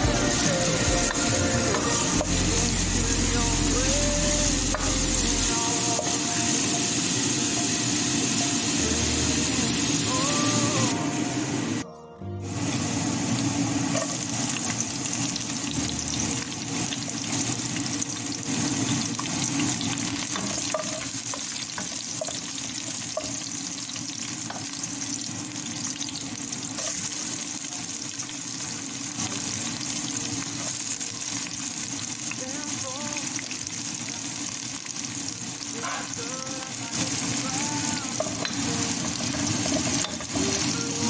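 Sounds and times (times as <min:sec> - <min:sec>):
garlic sizzling in hot oil: 0:00.0 - 0:11.8, 0:12.5 - 0:41.0.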